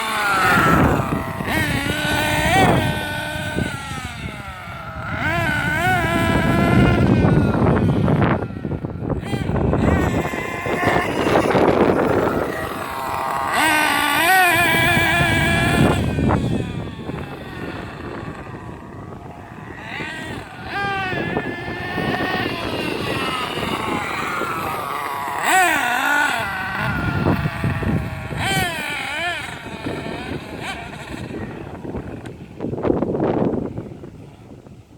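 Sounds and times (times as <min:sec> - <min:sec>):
radio-controlled car motor revving: 0:00.0 - 0:34.1.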